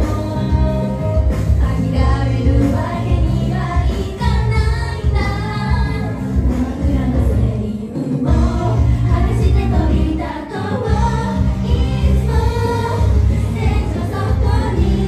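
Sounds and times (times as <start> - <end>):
woman singing pop song: 0.0 - 15.0.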